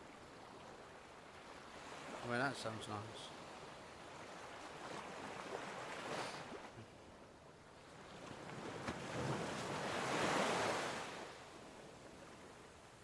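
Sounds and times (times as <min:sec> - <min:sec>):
rushing surf-like water: 0:00.0 - 0:07.2, 0:07.8 - 0:13.0.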